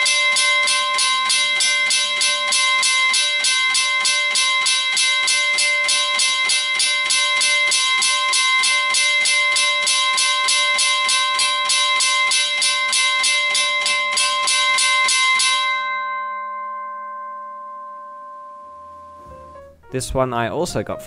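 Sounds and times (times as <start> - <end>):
railway crossing bell ringing: 0.0 - 19.7.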